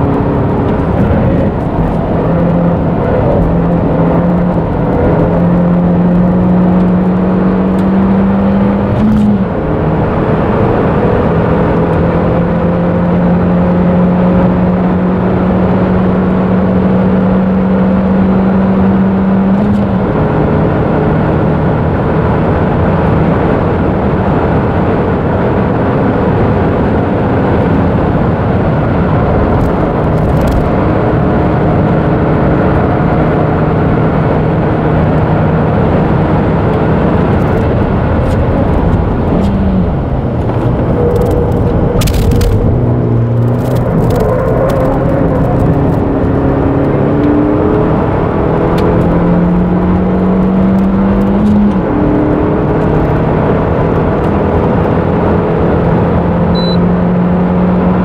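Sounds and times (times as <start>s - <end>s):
car engine accelerating: 0.0s - 58.0s
road and tyre noise: 0.0s - 58.0s.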